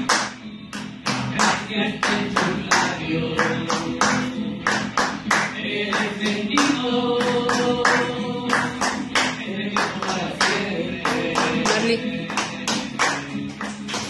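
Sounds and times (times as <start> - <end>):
people clapping along: 0.0 - 14.0
person singing a song: 0.2 - 14.0.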